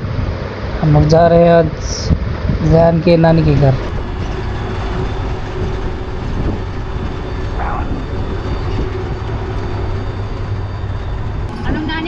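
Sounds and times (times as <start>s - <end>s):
auto-rickshaw engine drone: 0.0s - 12.0s.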